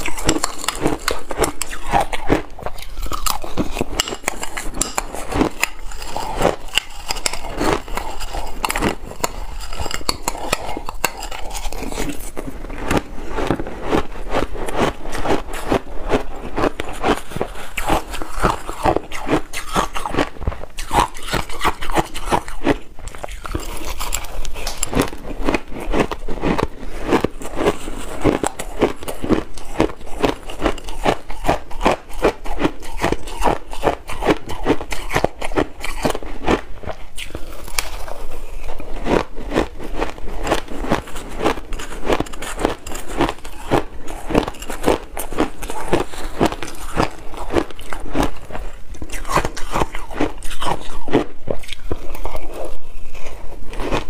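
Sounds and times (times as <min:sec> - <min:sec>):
ice being crunched and chewed: 0:00.0 - 0:54.0.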